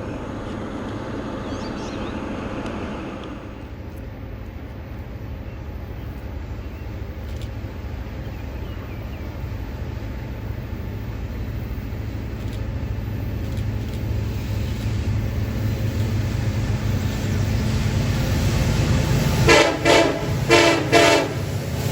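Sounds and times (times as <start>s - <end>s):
diesel locomotive engine rumbling: 0.0s - 21.9s.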